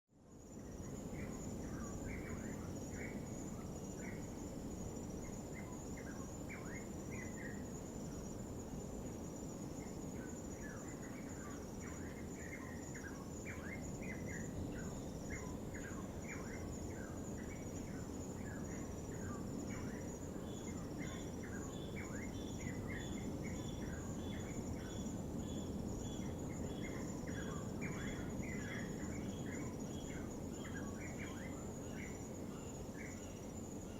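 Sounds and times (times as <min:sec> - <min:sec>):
night insects trilling: 0:00.2 - 0:33.9.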